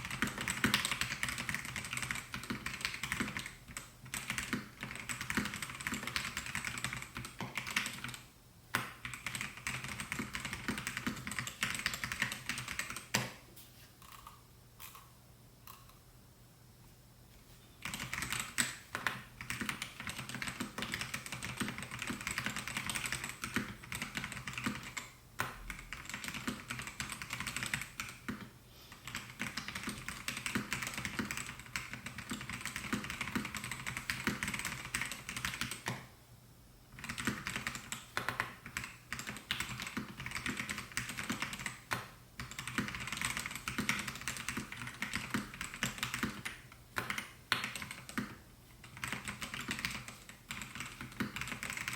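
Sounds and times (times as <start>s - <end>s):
mechanical keyboard typing: 0.0s - 13.2s, 17.8s - 36.0s, 36.9s - 51.9s.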